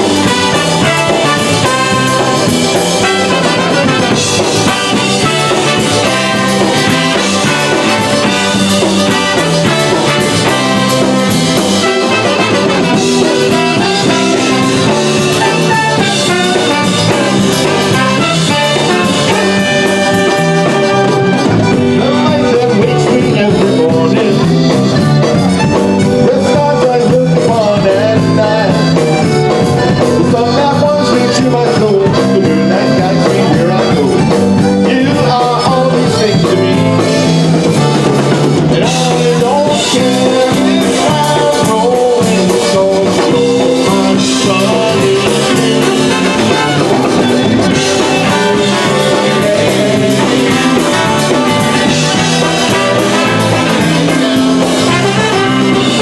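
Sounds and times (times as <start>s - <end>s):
polka band playing: 0.0s - 56.0s.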